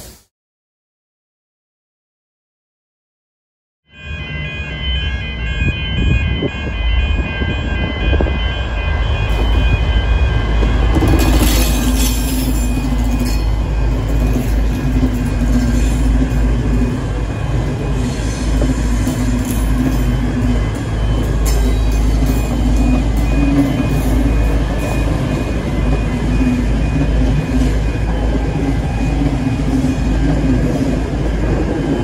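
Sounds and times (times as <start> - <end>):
ringing warning bells: 3.9 - 32.0
train rumbling past: 4.0 - 32.0.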